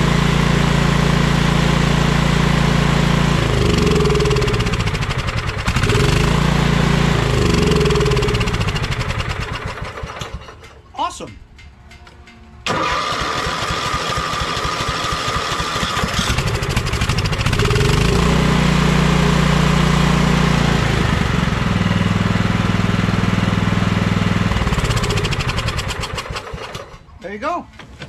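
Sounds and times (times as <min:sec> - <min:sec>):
riding mower engine running: 0:00.0 - 0:10.8, 0:12.6 - 0:27.1.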